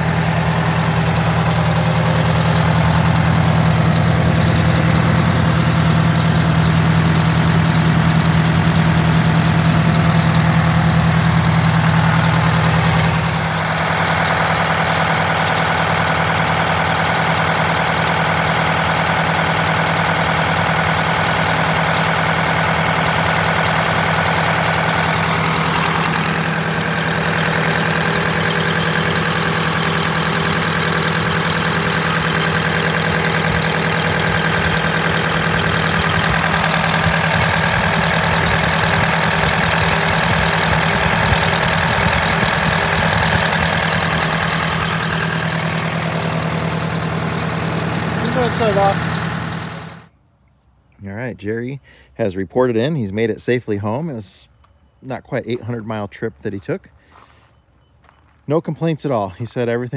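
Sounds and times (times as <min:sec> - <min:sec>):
diesel bus engine idling: 0:00.0 - 0:50.1.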